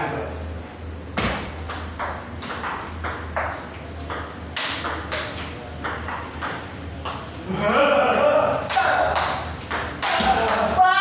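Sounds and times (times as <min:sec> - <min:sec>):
table tennis ball bouncing: 0:01.2 - 0:07.3, 0:08.1 - 0:10.8.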